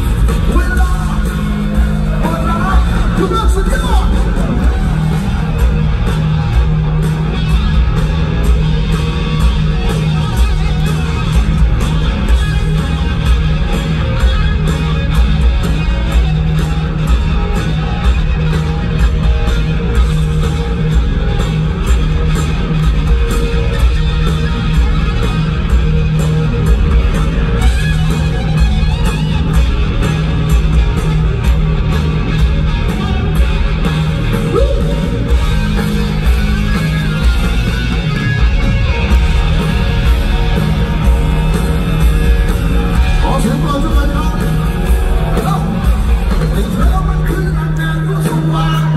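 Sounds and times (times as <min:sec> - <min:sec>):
bass guitar: 0:00.0 - 0:48.9
drums keeping a beat: 0:00.0 - 0:48.9
electric guitars: 0:00.0 - 0:48.9.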